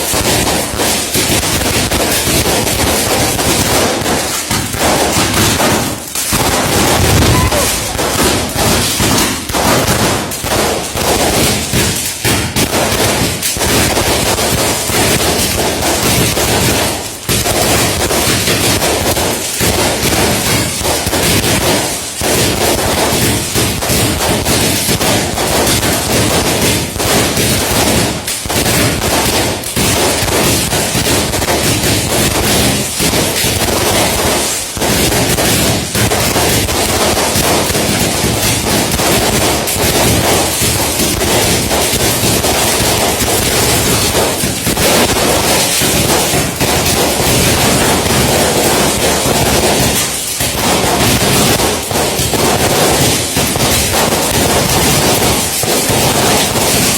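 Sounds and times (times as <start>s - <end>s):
firecrackers crackling: 0.0s - 56.9s.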